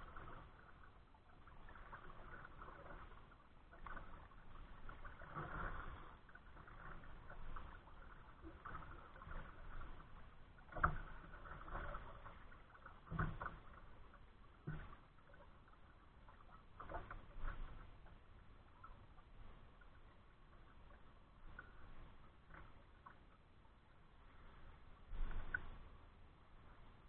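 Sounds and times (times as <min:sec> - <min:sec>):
kayak paddle splashing: 0:00.0 - 0:23.6
water lapping at hull: 0:00.0 - 0:27.0.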